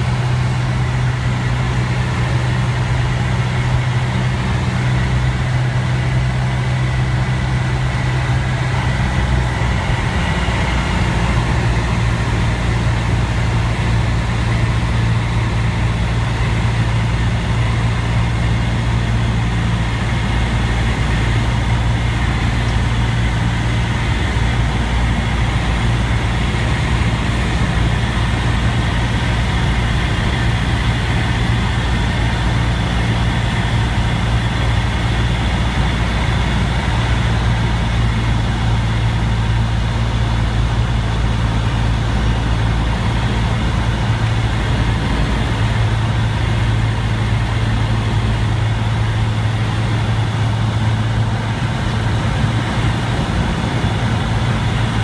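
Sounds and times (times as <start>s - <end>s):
propeller plane engine droning: 0.0s - 55.0s
airflow noise: 7.8s - 55.0s.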